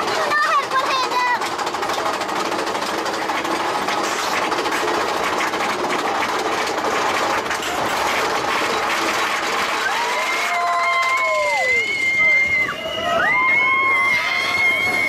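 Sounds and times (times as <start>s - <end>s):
roller coaster wheels clattering: 0.0s - 15.0s.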